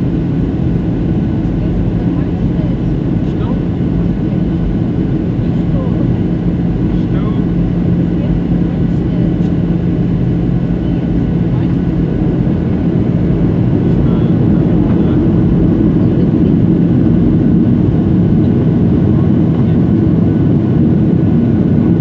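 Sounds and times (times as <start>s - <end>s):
jet engine drone: 0.0s - 22.0s.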